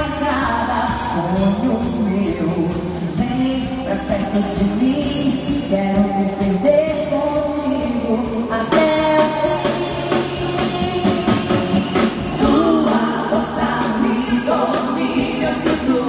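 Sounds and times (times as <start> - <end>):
live band playing pop song: 0.0 - 16.0
person singing: 0.0 - 16.0.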